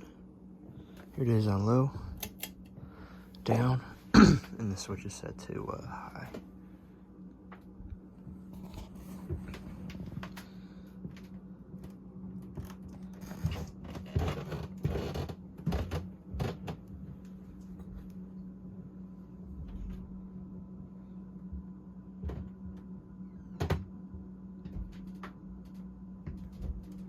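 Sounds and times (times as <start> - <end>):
ceiling fan motor humming: 0.0 - 27.0.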